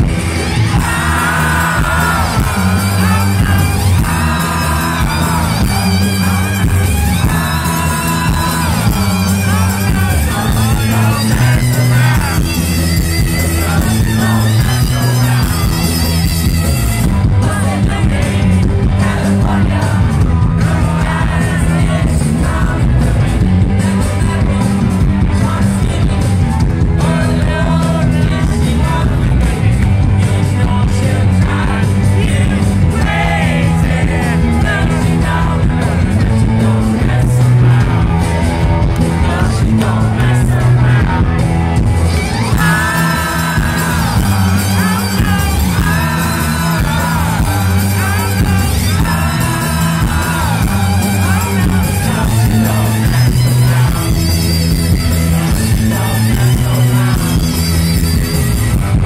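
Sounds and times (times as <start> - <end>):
rock band playing live: 0.0 - 59.0
man singing: 0.6 - 16.4, 17.0 - 38.4, 42.3 - 58.4.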